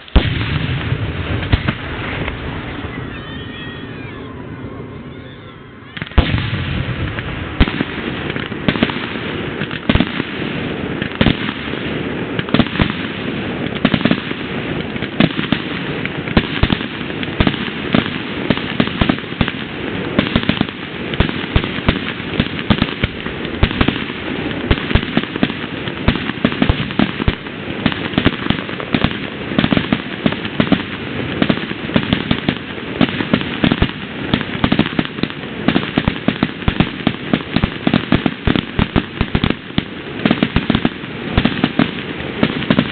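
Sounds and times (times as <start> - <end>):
fireworks cracking and popping: 0.0 - 42.9.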